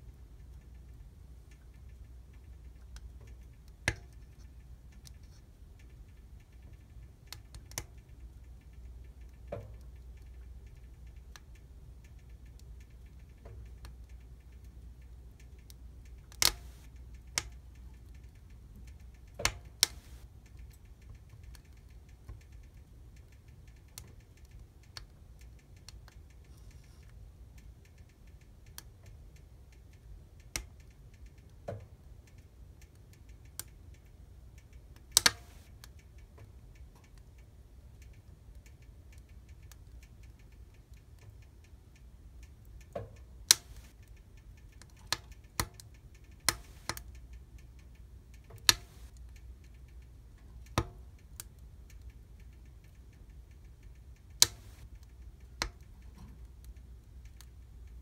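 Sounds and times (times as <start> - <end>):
wood fire crackling and popping: 0.2 - 58.0.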